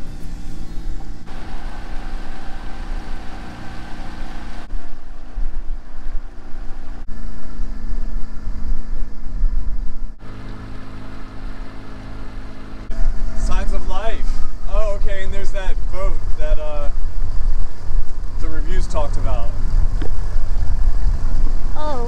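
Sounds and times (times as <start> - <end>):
boat motor running: 0.0 - 22.0
wind rumbling on microphone: 0.0 - 22.0.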